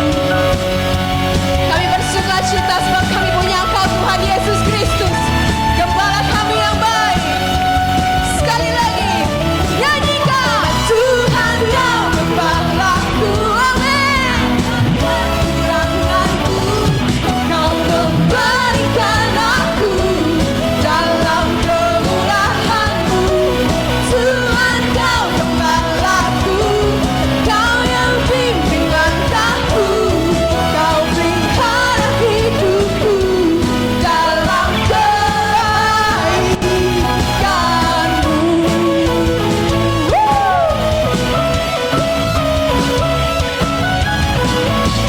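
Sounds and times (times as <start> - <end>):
live worship band music: 0.0 - 45.0
person singing: 1.7 - 41.2.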